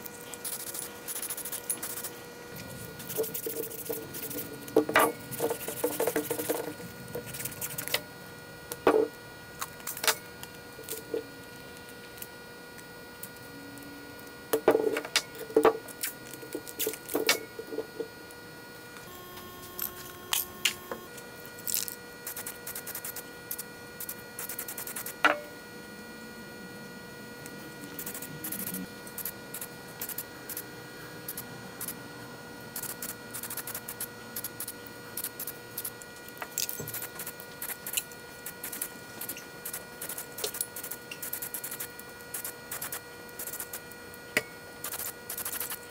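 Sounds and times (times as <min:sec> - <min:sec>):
steady electrical hum: 0:00.0 - 0:45.9.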